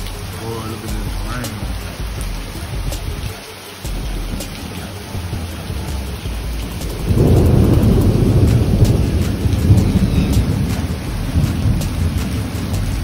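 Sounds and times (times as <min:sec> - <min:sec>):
dripping ticks: 0:00.0 - 0:13.0
heavy rain falling: 0:00.0 - 0:13.0
thunder rumbling: 0:00.0 - 0:13.0.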